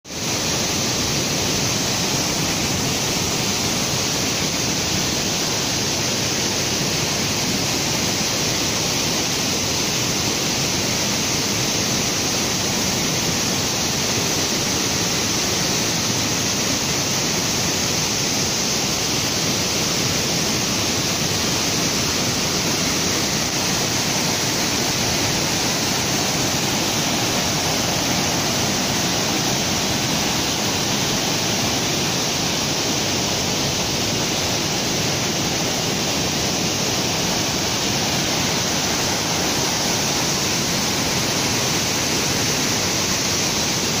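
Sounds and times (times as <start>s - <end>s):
waterfall rushing: 0.1s - 44.0s.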